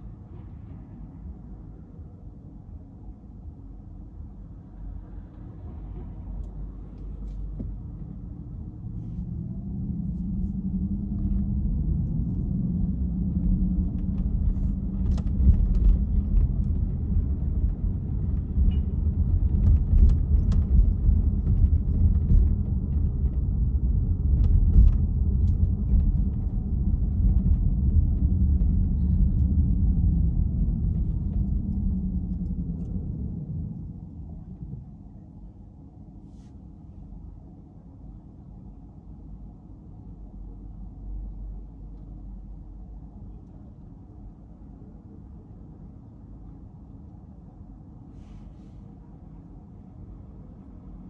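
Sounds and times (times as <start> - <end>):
car engine and tyre noise: 0.0 - 51.0.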